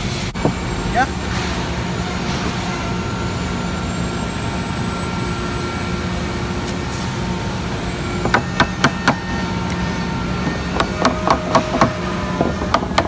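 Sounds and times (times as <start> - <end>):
shop machinery drone: 0.0 - 13.0.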